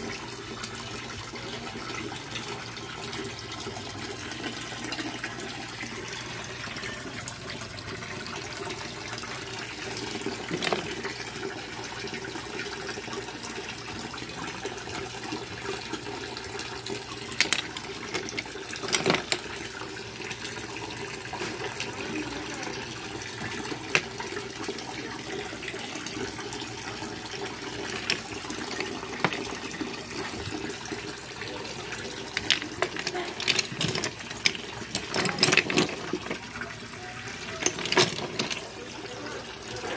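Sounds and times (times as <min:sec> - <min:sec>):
water running through filter: 0:00.0 - 0:39.9.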